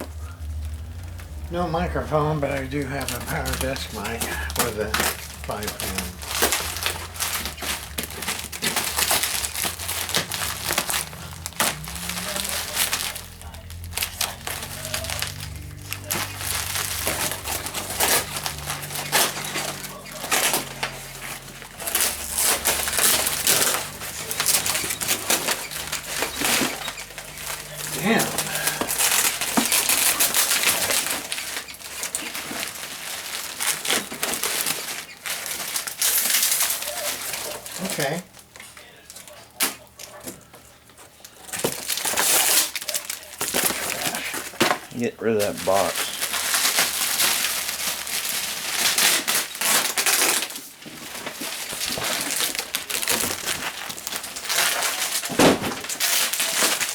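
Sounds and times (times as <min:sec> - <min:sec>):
packing material rustling: 0:00.0 - 0:56.9
paper and cardboard crumpling: 0:00.0 - 0:56.9.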